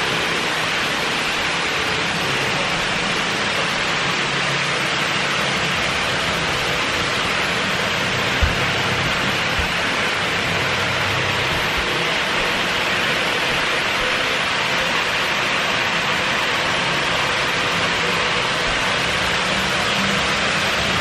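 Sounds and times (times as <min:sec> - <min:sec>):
model trains whirring on tracks: 0:00.0 - 0:21.0.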